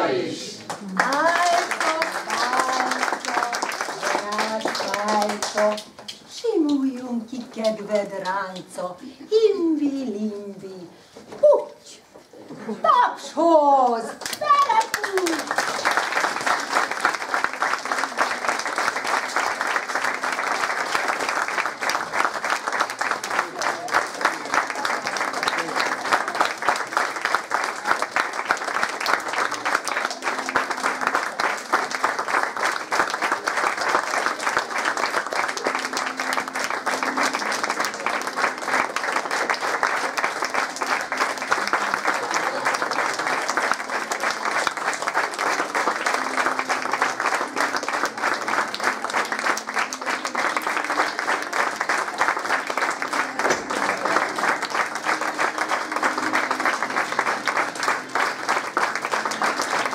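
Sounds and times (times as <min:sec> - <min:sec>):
audience applauding: 0:00.0 - 0:06.9, 0:14.0 - 0:59.9.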